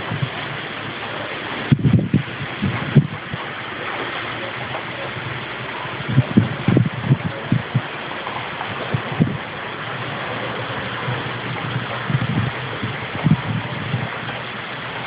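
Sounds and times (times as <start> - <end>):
heavy rain pouring: 0.0 - 15.0
wind thumping on microphone: 0.0 - 15.0.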